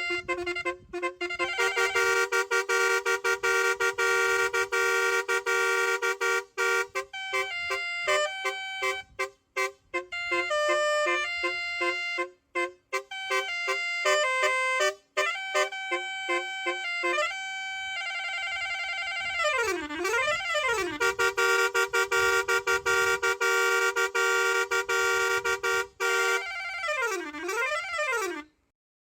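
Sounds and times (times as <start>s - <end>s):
electronic musical truck horn: 0.0s - 28.7s.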